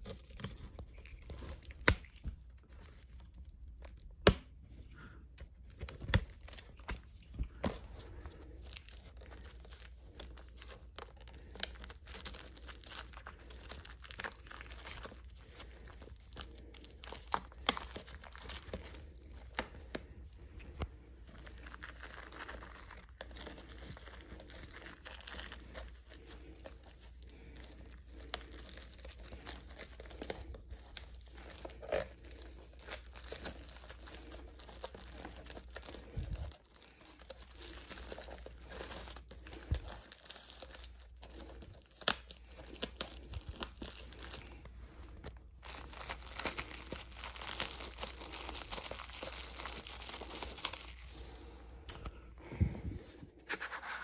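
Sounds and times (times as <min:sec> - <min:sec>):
plastic shrink-wrap crinkling: 0:00.0 - 0:04.3, 0:05.5 - 0:54.0.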